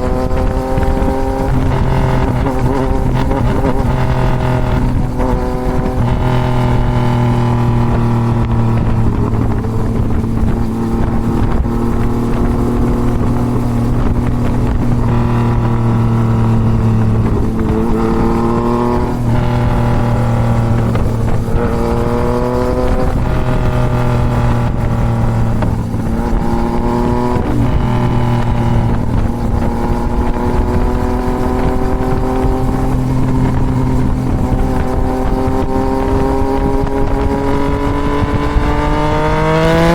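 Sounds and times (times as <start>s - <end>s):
motorcycle engine accelerating: 0.0s - 39.9s
wind rushing past microphone: 0.0s - 39.9s.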